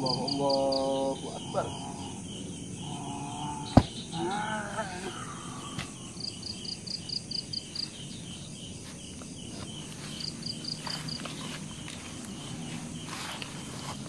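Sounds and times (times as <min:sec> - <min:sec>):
crickets chirping: 0:00.0 - 0:14.0
high insect hiss: 0:00.0 - 0:14.0.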